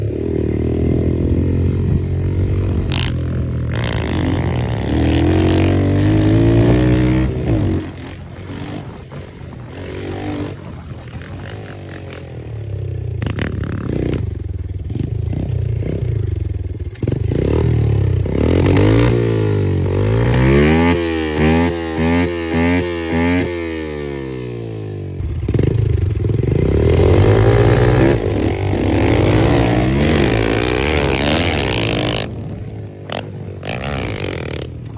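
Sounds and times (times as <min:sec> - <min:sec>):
small motorbike engine revving: 0:00.0 - 0:34.9.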